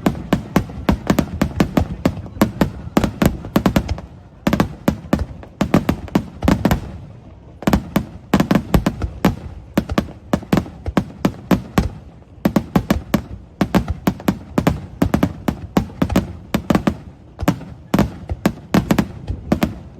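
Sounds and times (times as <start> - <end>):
fireworks bursting: 0.0 - 19.9.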